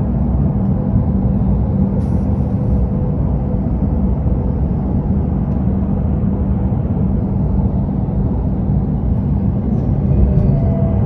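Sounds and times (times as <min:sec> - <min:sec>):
train cabin low rumble: 0:00.0 - 0:11.0.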